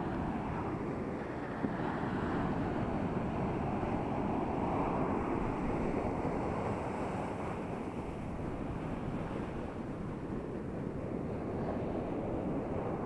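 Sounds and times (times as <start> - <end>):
ocean surf breaking on beach: 0.0 - 13.0
wind buffeting microphone: 0.0 - 13.0.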